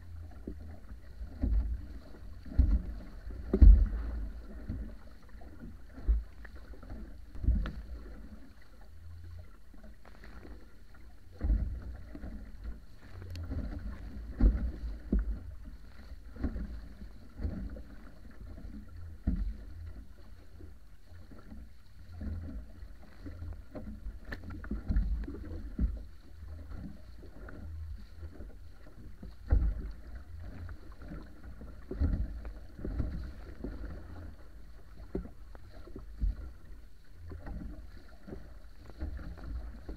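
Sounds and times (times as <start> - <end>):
water rushing along hull: 0.0 - 39.9
waves slapping hull: 0.0 - 39.9.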